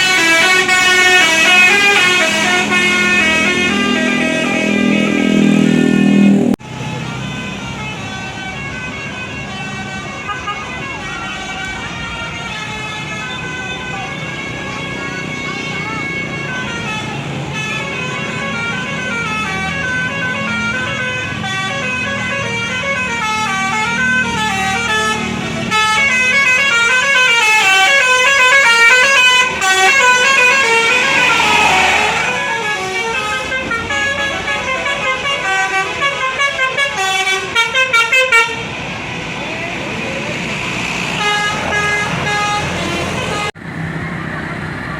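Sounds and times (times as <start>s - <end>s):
bus musical horn melody: 0.0s - 39.4s, 41.1s - 43.6s.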